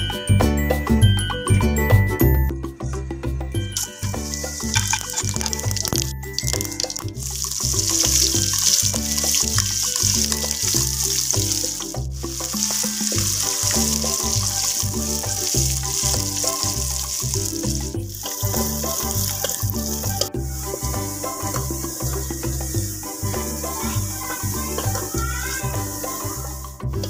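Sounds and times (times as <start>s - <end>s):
music with bass beat: 0.0s - 27.0s
onions sizzling in hot oil: 3.8s - 27.0s.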